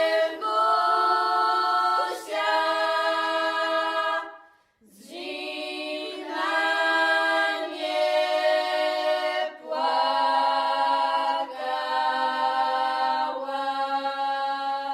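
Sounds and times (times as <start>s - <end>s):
choir singing a cappella: 0.0s - 14.9s.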